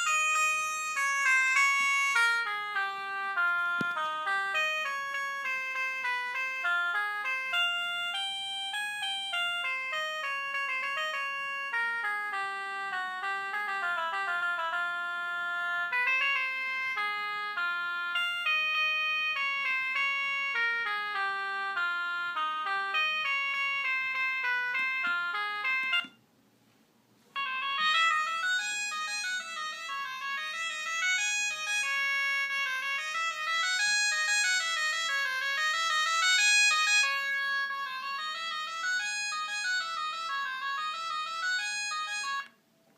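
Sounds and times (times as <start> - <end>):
polyphonic ringtone melodies: 0.0 - 26.2, 27.4 - 42.5.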